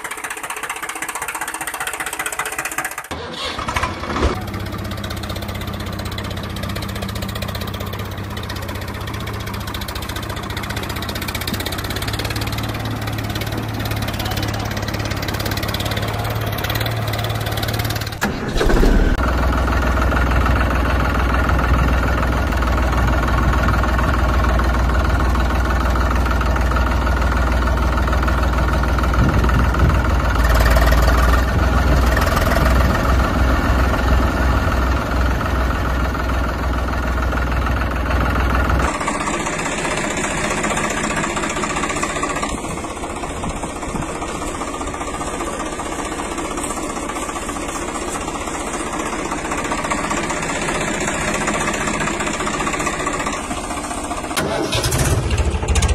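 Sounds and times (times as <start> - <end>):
tractor engine rumbling: 0.0 - 55.9.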